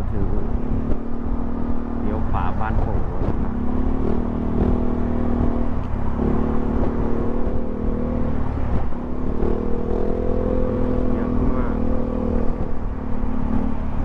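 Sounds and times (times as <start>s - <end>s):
scooter engine cruising: 0.0s - 14.0s
wind and road rumble: 0.0s - 14.0s.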